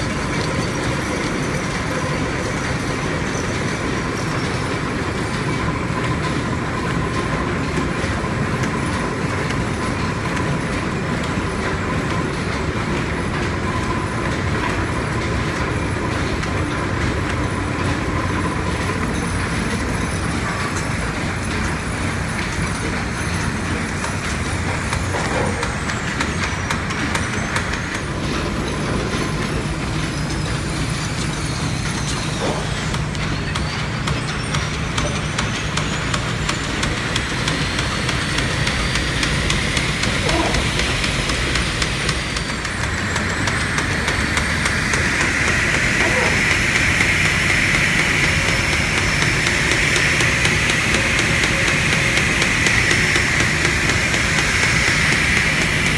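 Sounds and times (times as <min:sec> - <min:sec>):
machinery rumble and rattle: 0:00.0 - 0:55.9.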